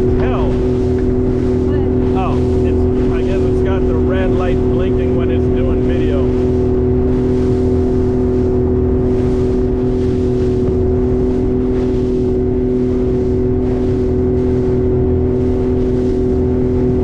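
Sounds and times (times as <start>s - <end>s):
speedboat engine running: 0.0s - 17.0s.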